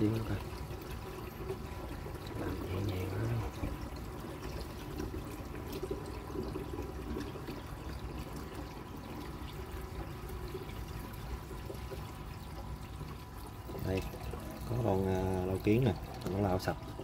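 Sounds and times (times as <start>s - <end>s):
aquarium filter water trickling: 0.0s - 17.0s.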